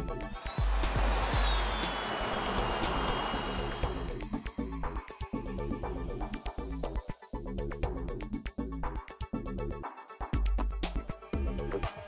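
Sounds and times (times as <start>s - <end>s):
instrumental music with beat and bass: 0.0s - 12.0s.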